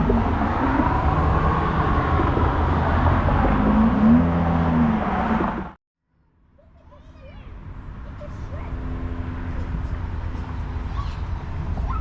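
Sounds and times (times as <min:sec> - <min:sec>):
cars passing: 0:00.0 - 0:05.8, 0:07.2 - 0:12.0.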